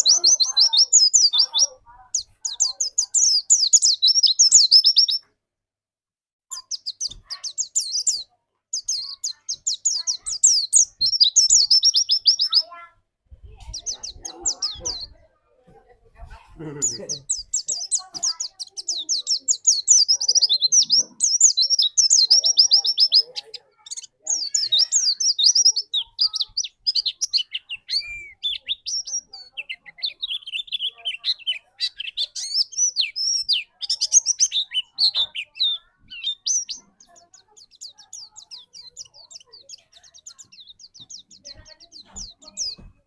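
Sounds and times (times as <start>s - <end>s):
bird twittering: 0.0s - 5.3s, 6.5s - 12.9s, 16.8s - 42.9s.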